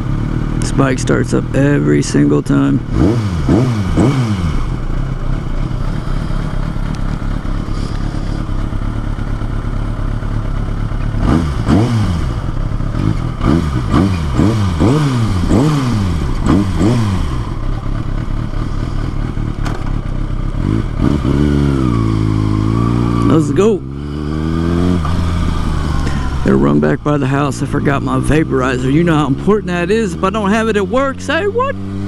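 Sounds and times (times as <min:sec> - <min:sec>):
engine revving: 0:00.0 - 0:09.5, 0:10.1 - 0:32.0
motorcycle engine idling: 0:00.0 - 0:32.0.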